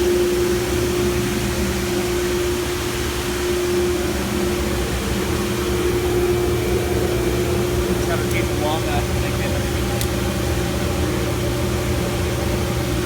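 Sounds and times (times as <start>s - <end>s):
dust collector rushing air: 0.0s - 13.0s.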